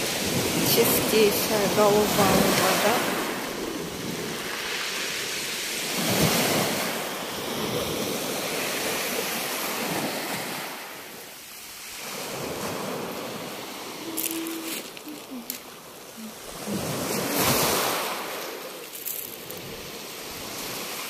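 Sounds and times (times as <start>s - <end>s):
waves washing over pebble beach: 0.0s - 21.0s.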